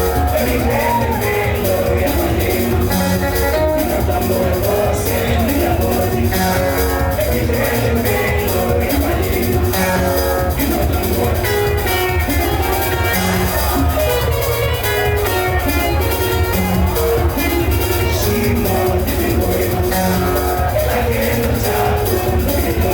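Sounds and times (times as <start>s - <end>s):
drum kit beat: 0.0s - 22.9s
live band music: 0.0s - 22.9s
plucked guitar: 0.0s - 22.9s.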